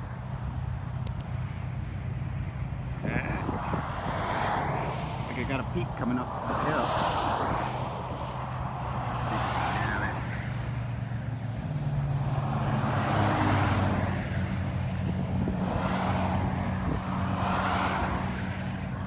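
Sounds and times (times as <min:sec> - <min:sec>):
tyre noise of passing cars: 0:00.0 - 0:19.0.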